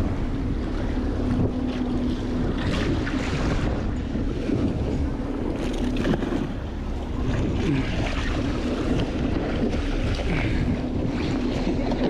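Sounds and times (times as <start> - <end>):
boat engine running: 0.0 - 12.0
waves: 0.0 - 12.0
wind buffeting microphone: 0.0 - 12.0.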